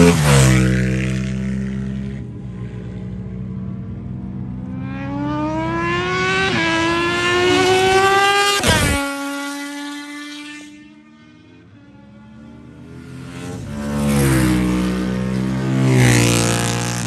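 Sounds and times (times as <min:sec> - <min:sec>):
motorcycle accelerating past: 0:00.0 - 0:17.0.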